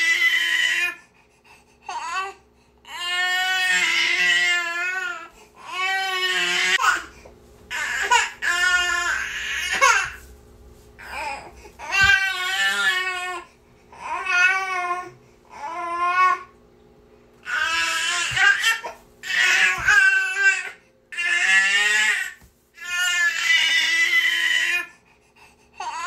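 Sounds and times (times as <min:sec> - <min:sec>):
baby crying: 0:01.9 - 0:07.1, 0:07.7 - 0:10.2, 0:11.0 - 0:16.5, 0:17.4 - 0:24.9, 0:25.8 - 0:26.0.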